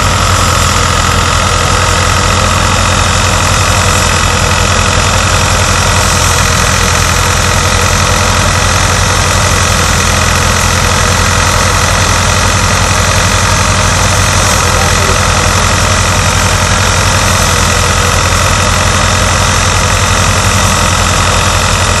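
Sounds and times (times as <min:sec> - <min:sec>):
thresher drum spinning: 0:00.0 - 0:22.0
tractor engine running under load: 0:00.0 - 0:22.0.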